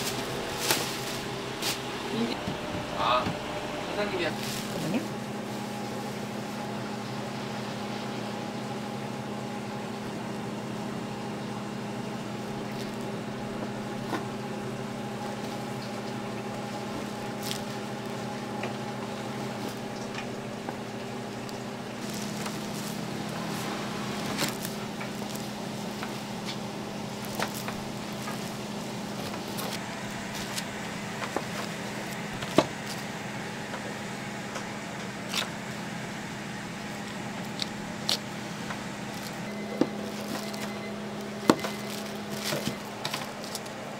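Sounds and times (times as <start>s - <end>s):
steady mechanical hum: 0.0s - 43.9s.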